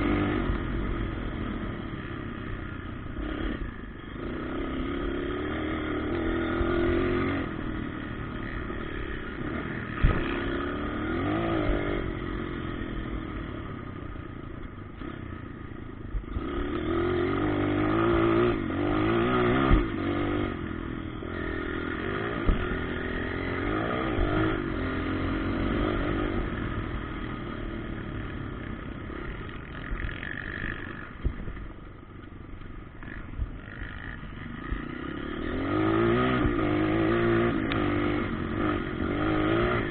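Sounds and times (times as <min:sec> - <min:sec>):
motocross bikes revving: 0:00.0 - 0:31.8, 0:32.6 - 0:39.9.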